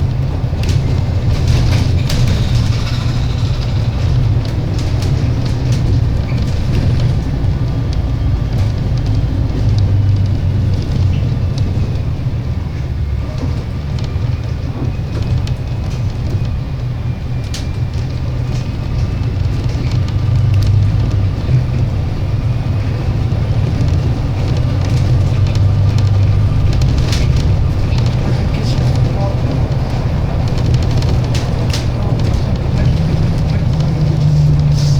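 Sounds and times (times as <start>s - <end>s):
bus engine droning: 0.0s - 34.9s
clicks and rattles: 0.4s - 12.0s, 17.4s - 34.8s.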